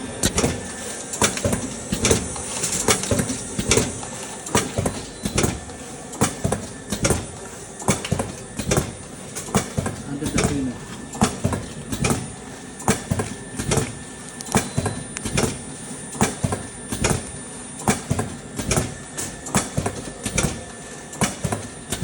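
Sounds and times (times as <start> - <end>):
machine running noise: 0.0 - 22.0
packaging machine clacking: 0.0 - 22.0.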